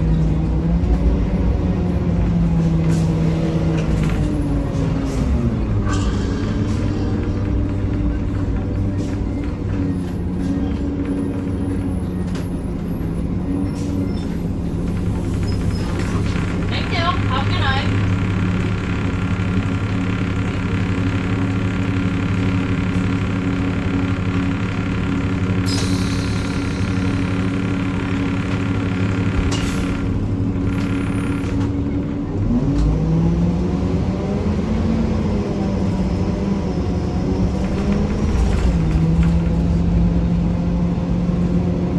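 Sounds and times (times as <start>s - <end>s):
bus diesel engine rumbling: 0.0s - 41.9s
loud transmission grinding: 0.0s - 41.9s
low drivetrain hum: 0.0s - 41.9s.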